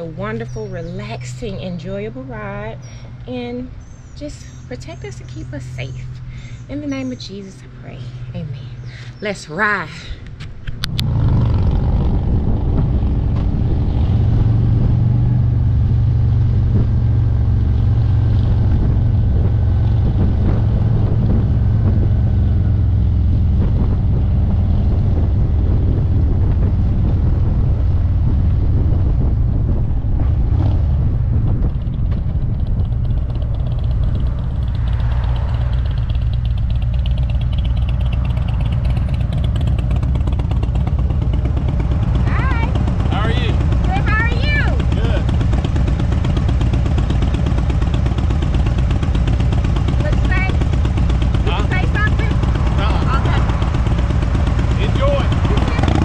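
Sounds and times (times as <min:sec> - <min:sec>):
motorcycle engine pulling away: 0:10.5 - 0:56.0.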